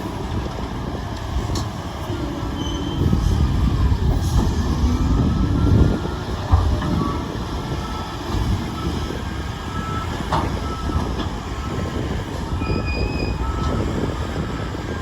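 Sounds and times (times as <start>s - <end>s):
low rumble of heavy vehicles: 0.0s - 15.0s.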